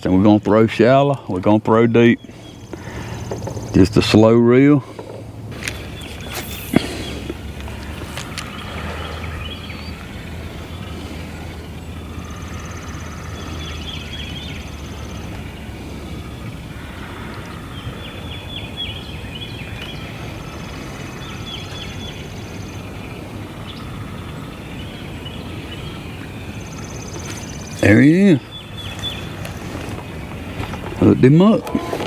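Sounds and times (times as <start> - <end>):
birds chirping: 0.0 - 32.0
low wind rumble: 0.0 - 32.0.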